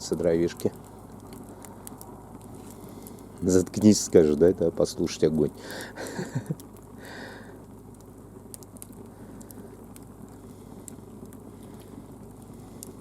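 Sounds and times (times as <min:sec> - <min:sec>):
fire crackling and popping: 0:00.0 - 0:13.0
fire rushing: 0:00.0 - 0:13.0.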